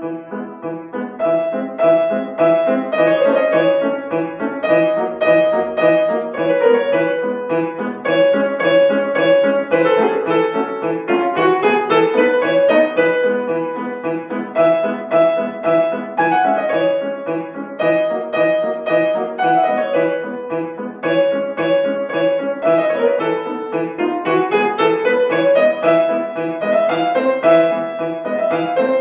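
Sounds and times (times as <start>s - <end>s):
solo piano playing: 0.0s - 29.0s.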